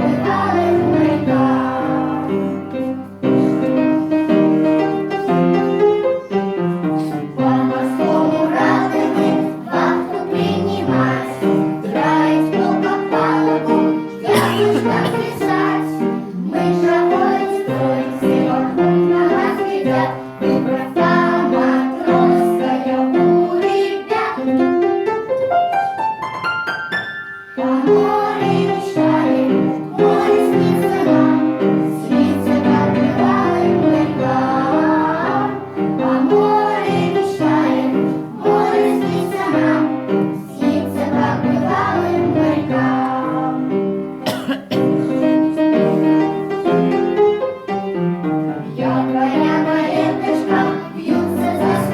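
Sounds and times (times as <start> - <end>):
keyboard accompaniment: 0.0 - 51.9.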